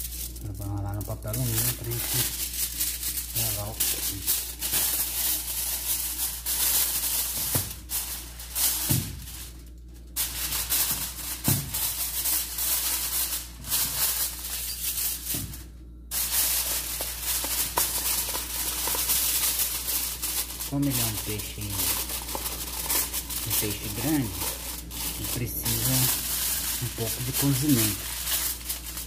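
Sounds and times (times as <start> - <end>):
aluminium foil crinkling: 0.0 - 29.0.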